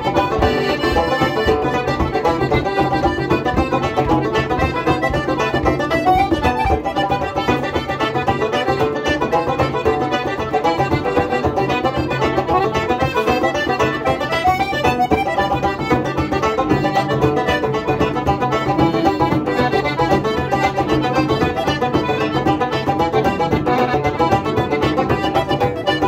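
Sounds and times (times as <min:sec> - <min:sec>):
frame drum steady beat: 0:00.0 - 0:26.0
piano accordion melody: 0:00.0 - 0:26.0.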